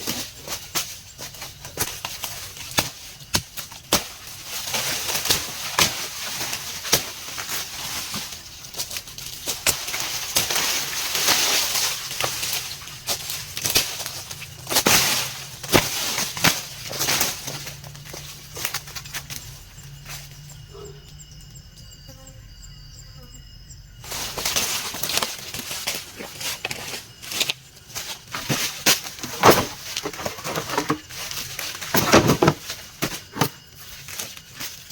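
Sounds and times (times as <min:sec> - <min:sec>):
branches snapping: 0:00.0 - 0:19.4, 0:24.1 - 0:34.8
branches and leaves rustling: 0:00.0 - 0:21.8, 0:24.0 - 0:34.9.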